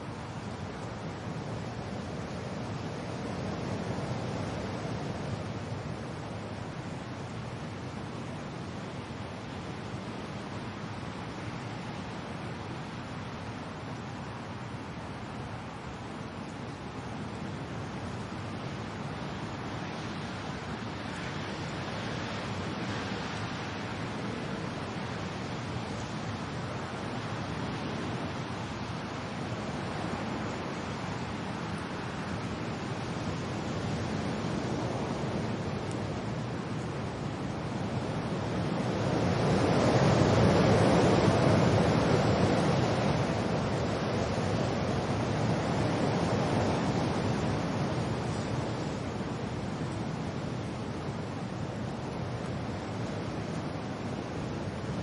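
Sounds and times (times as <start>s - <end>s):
rain: 0.0s - 55.0s
wind: 0.0s - 55.0s.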